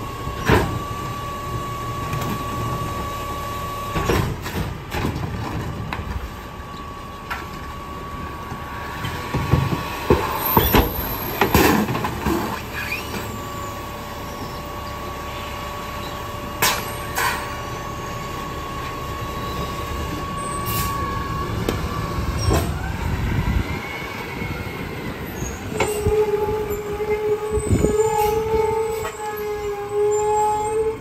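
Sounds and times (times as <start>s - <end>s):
hydraulic packer whine: 0.0s - 31.0s
bins and trash clanking: 0.2s - 23.2s, 25.0s - 31.0s.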